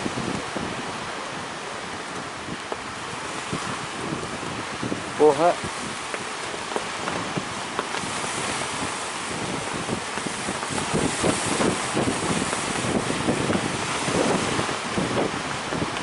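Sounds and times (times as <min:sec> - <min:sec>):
sea waves breaking in surf: 0:00.0 - 0:16.0
wind buffeting microphone: 0:00.0 - 0:16.0.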